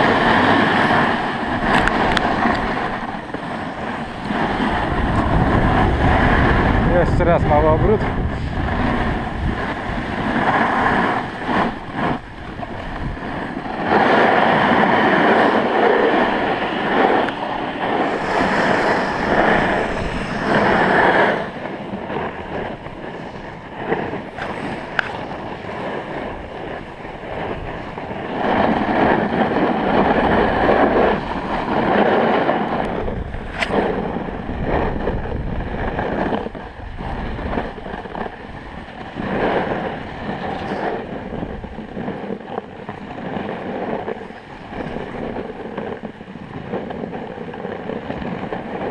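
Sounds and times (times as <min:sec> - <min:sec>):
wind rushing: 0:00.0 - 0:47.3
snowboard scraping over snow: 0:00.0 - 0:48.9.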